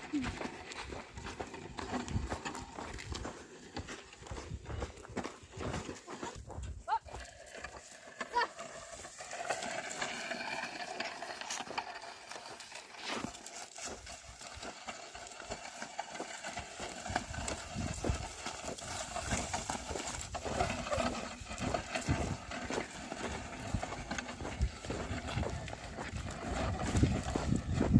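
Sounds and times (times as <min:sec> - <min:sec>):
hoof steps and knocks: 0:00.0 - 0:27.9
outdoor background noise: 0:00.0 - 0:27.9.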